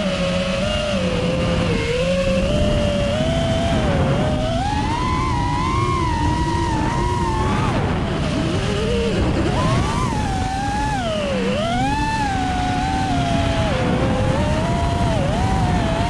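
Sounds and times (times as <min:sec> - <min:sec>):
quadcopter motors whining: 0:00.0 - 0:16.0
wind noise on microphone: 0:00.0 - 0:16.0.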